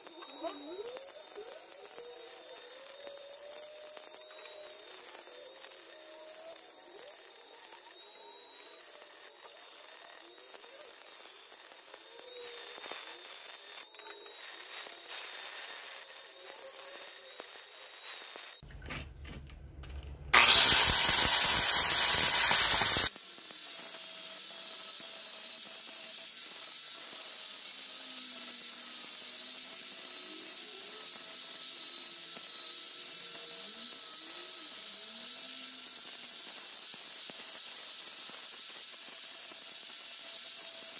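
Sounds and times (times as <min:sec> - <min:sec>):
angle grinder whining and grinding: 0:00.0 - 0:40.9
rotary tool carving shell: 0:00.0 - 0:40.9.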